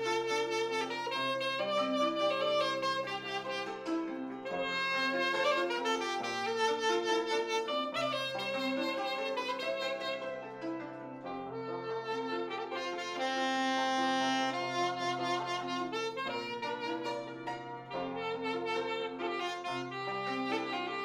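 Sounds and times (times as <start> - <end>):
reedy wind instrument melody: 0.0 - 21.0.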